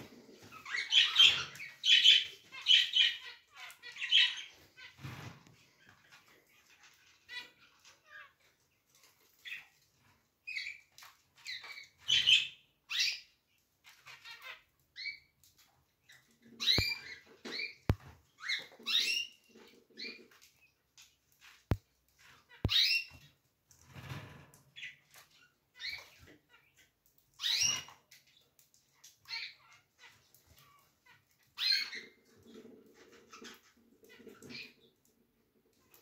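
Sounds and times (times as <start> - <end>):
canary chirping: 0.0 - 36.0.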